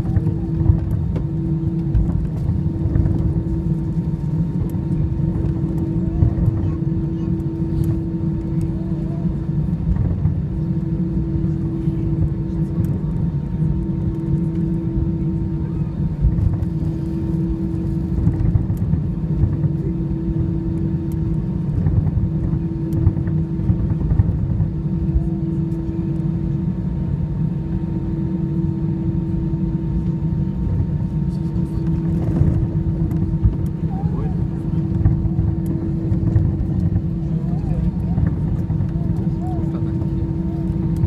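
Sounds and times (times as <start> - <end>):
jet engine low rumble: 0.0 - 41.0
steady cabin hum: 0.0 - 41.0.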